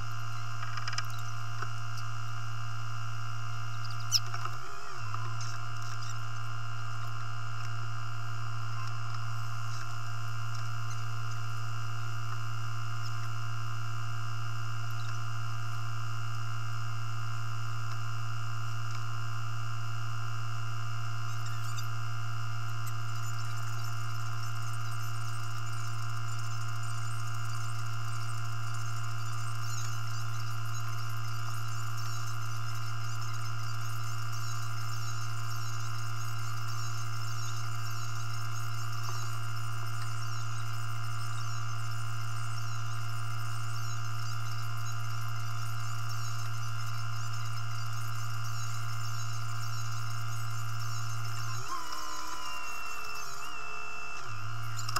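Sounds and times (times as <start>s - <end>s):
high-pitched whines: 0.0s - 54.9s
steady low hum: 0.0s - 54.9s.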